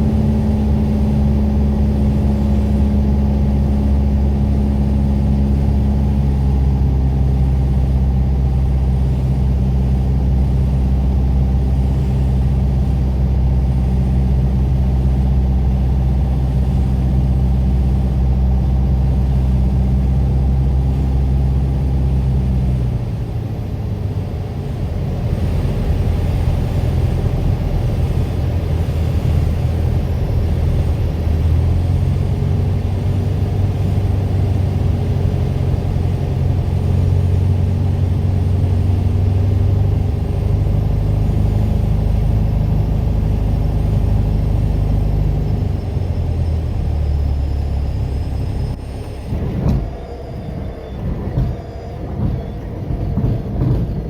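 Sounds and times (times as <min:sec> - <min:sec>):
piston aircraft engine running: 0:00.0 - 0:54.0.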